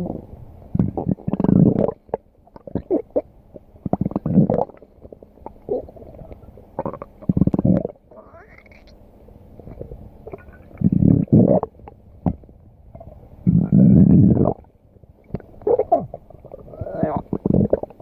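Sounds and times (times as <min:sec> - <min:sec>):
stomach growling and gurgling: 0:00.0 - 0:09.0, 0:09.6 - 0:18.0.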